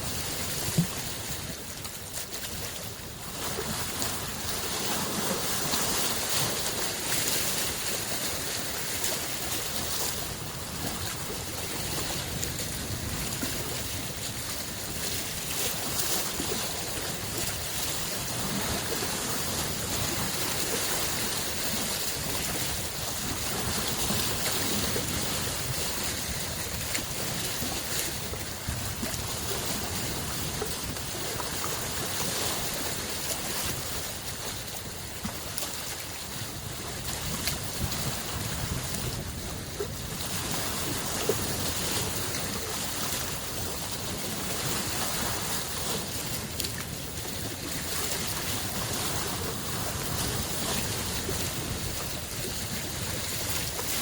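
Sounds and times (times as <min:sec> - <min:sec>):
lake waves washing against shore: 0:00.0 - 0:54.0.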